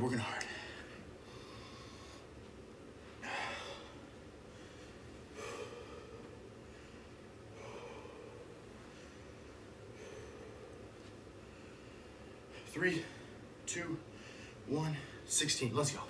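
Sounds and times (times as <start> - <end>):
man breathing hard: 0.4 - 2.4, 3.0 - 15.3.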